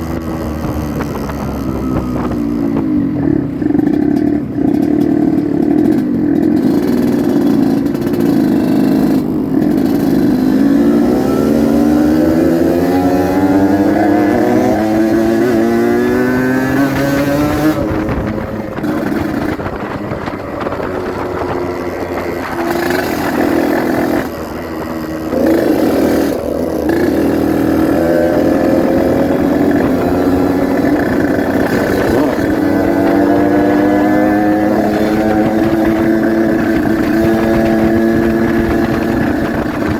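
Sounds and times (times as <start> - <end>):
two-stroke motorcycle engine accelerating: 0.0 - 39.9.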